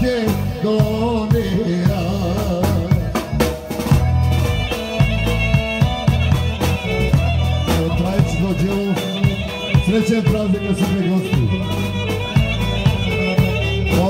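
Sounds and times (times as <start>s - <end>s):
drum beat: 0.0s - 14.0s
live folk band music: 0.0s - 14.0s.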